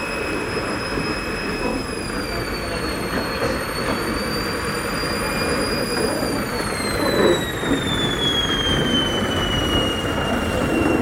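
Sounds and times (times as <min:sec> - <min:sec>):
toy train high-pitched whine: 0:00.0 - 0:11.0.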